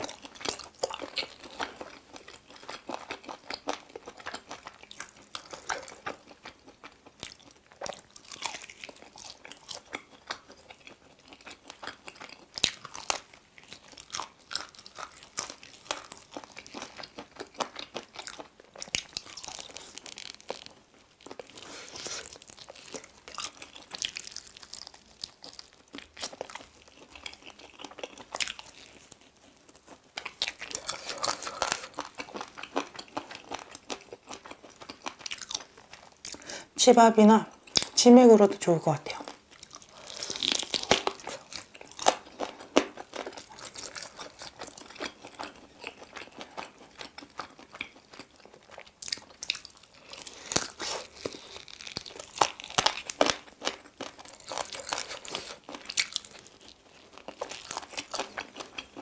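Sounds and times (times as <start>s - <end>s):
chewing crunchy chicken wings: 0.0s - 36.7s, 39.1s - 59.0s.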